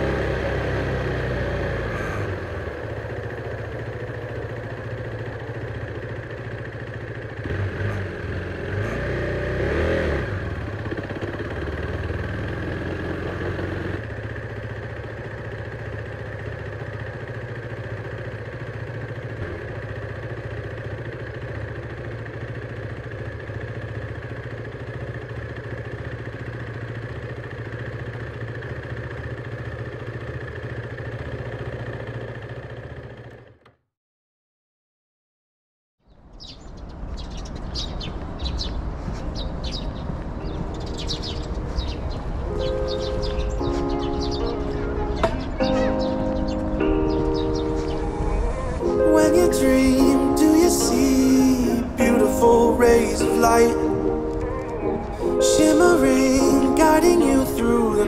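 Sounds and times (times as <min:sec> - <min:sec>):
motorcycle engine idling: 0:00.0 - 0:33.8, 0:36.4 - 0:58.0.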